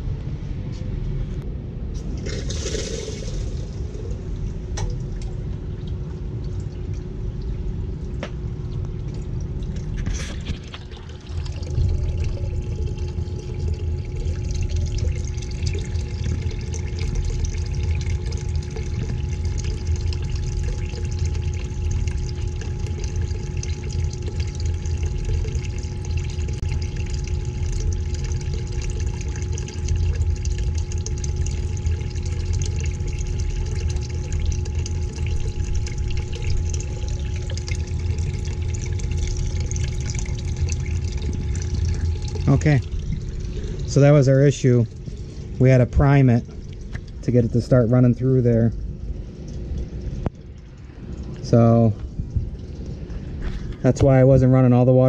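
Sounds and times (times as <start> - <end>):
pump humming: 1.4 - 55.0
liquid pouring into bucket: 2.0 - 55.0.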